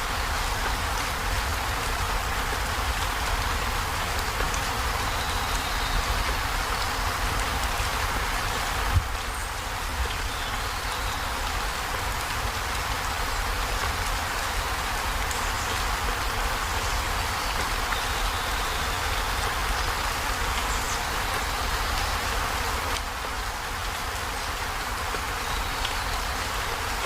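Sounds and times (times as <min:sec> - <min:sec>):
heavy rain on metal roof: 0:00.0 - 0:27.0.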